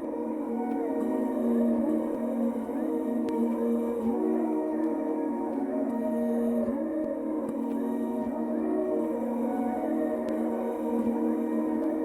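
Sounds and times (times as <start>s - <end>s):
ambient drone music of voices: 0.0s - 12.0s.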